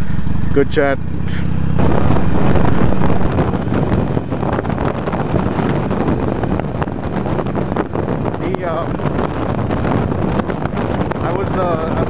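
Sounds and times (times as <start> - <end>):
motorcycle engine running: 0.0 - 12.0
wind buffeting microphone: 1.8 - 12.0.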